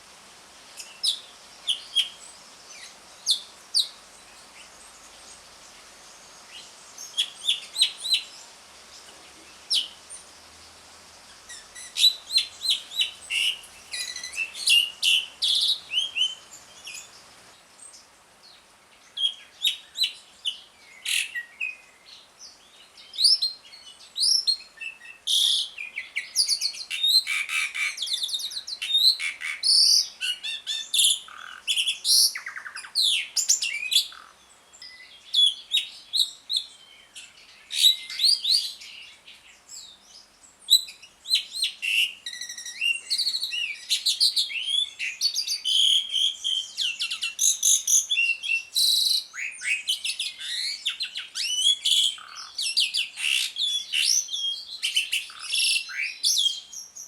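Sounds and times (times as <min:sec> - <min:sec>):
bird chattering song: 0:00.8 - 0:10.3, 0:11.3 - 0:18.1, 0:19.1 - 0:57.0.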